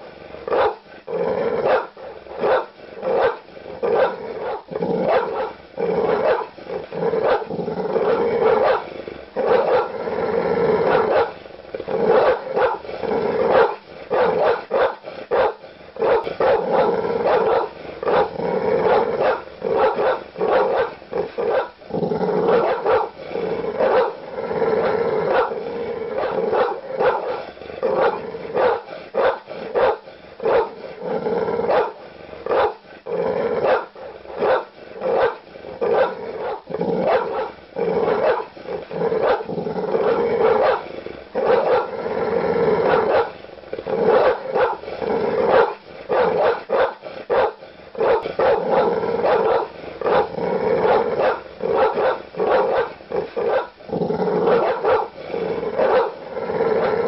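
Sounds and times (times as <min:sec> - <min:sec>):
large dogs barking aggressively: 0:00.4 - 0:57.0.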